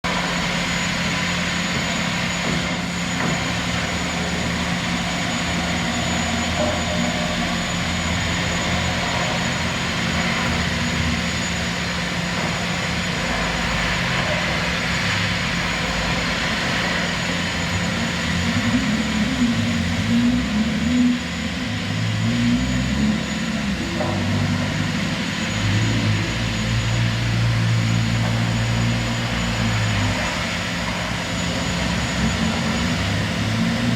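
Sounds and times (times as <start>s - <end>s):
metro train rumbling: 0.0s - 33.9s.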